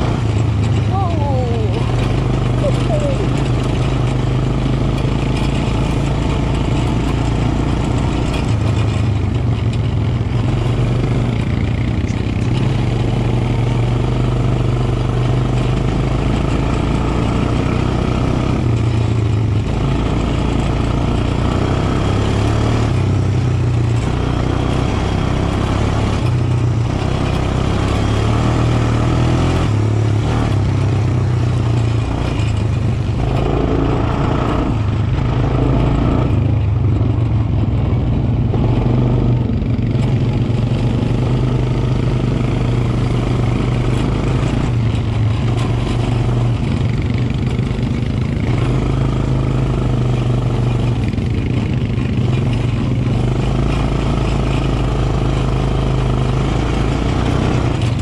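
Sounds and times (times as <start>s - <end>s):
quad bike engine humming: 0.0s - 58.0s.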